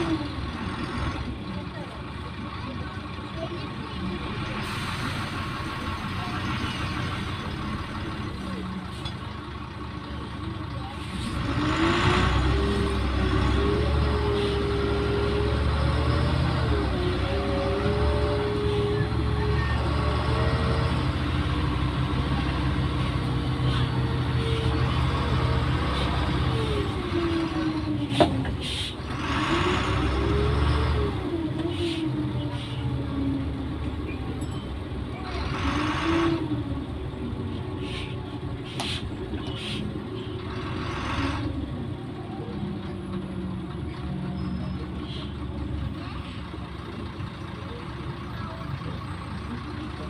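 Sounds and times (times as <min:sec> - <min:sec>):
bus engine whine and rumble: 0:00.0 - 0:50.0.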